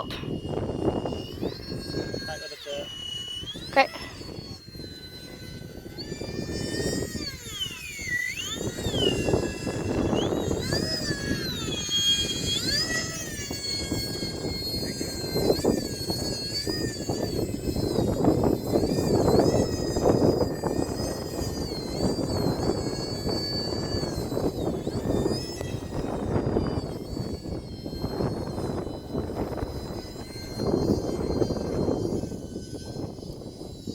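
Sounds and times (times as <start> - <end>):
model jet ducted-fan whine: 0.0 - 33.9
wind rumbling on microphone: 0.0 - 33.9.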